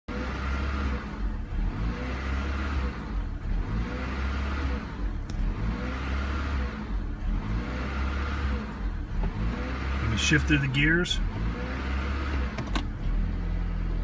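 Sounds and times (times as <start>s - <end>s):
car engine surging at idle: 0.1s - 14.0s.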